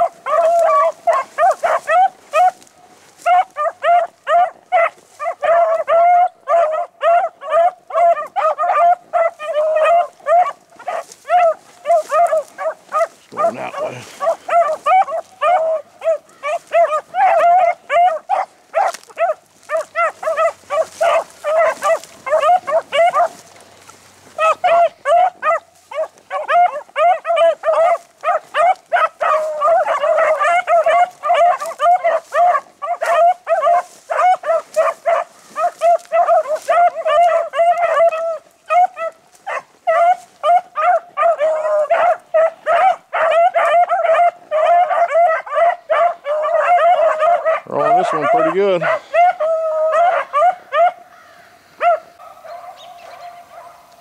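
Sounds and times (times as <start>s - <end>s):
hounds baying: 0.0s - 54.0s.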